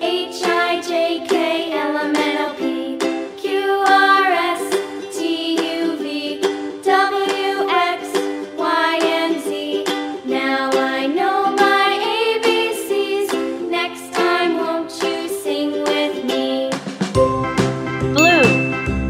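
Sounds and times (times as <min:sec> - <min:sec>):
upbeat instrumental children's tune: 0:00.0 - 0:19.0.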